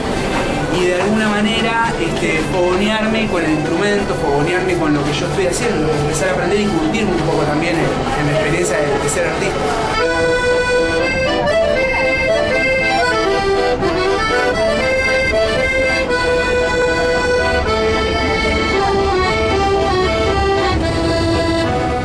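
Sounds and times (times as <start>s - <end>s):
accordion playing a melody: 0.0s - 22.0s.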